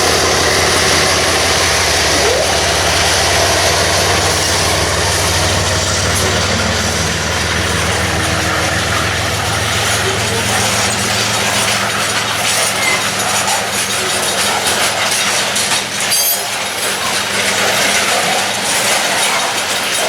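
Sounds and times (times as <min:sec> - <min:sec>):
high-pitched squeal: 0:00.0 - 0:17.2
freight train cars rolling: 0:00.0 - 0:20.0
train engine hum: 0:00.0 - 0:20.0.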